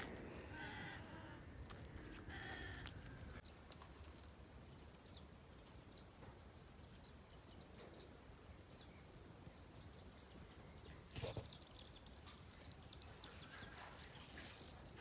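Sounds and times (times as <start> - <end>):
low steady background noise: 0.0 - 15.0.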